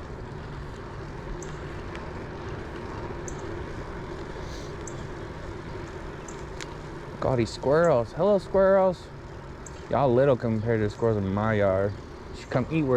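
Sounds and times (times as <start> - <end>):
wind and bicycle road noise: 0.0 - 12.9.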